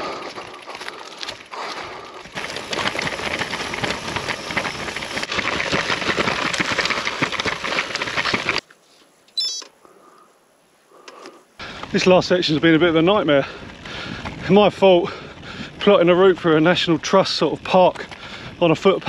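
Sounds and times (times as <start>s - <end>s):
bike rattling over dirt trail: 0.0s - 8.7s, 11.6s - 19.0s.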